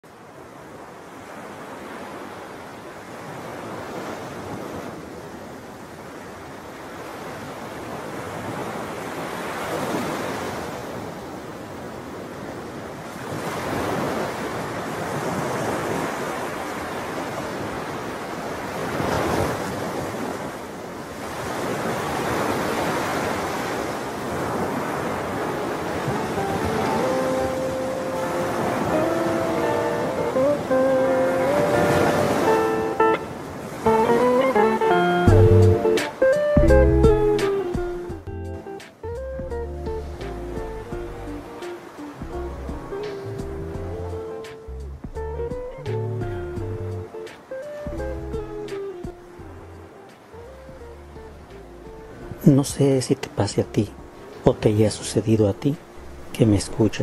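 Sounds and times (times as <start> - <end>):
waves breaking on beach: 0.0 - 39.2, 39.9 - 44.7, 47.0 - 57.0.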